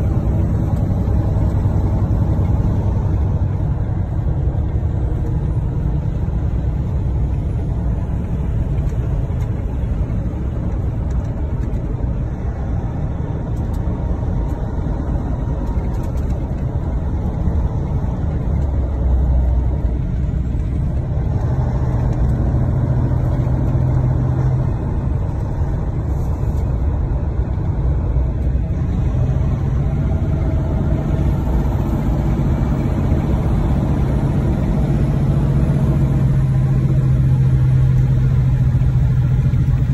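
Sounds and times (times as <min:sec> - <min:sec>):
diesel engine rumble: 0:00.0 - 0:39.9
road noise: 0:00.0 - 0:39.9.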